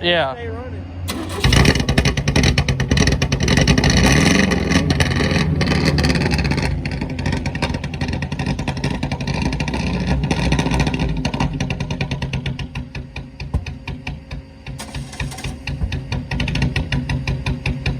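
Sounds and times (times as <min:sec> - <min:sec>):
engine backfiring: 0:01.1 - 0:17.9
race car engine idling rough: 0:01.1 - 0:17.9.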